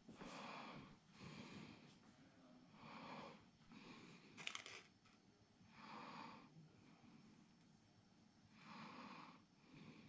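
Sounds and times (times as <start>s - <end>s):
quiet breathing: 0.0s - 10.0s.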